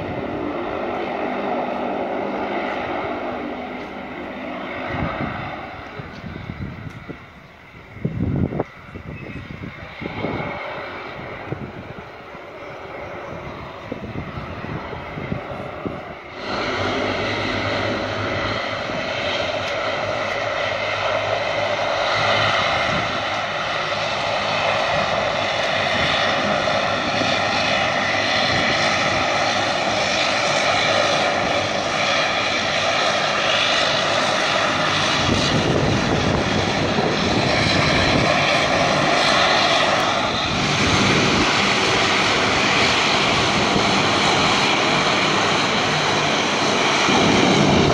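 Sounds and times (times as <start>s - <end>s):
turboprop plane taxiing: 0.0s - 47.9s.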